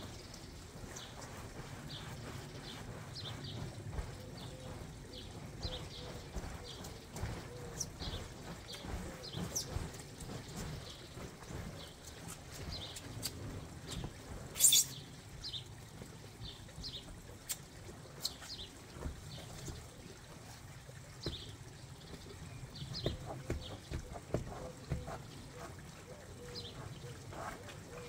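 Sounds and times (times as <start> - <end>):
small birds chirping: 0.0 - 28.0
water sloshing and scraping: 0.0 - 28.0.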